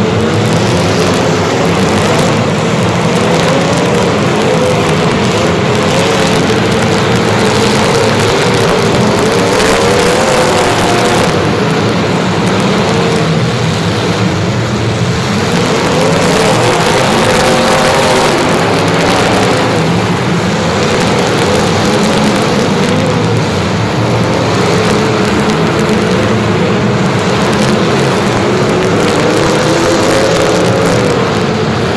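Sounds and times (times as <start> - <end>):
vehicle engine running loudly: 0.0 - 31.9.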